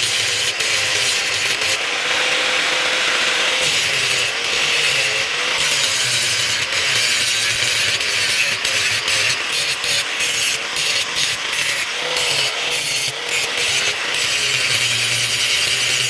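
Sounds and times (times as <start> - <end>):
power tool rasping on steel: 0.0 - 16.0.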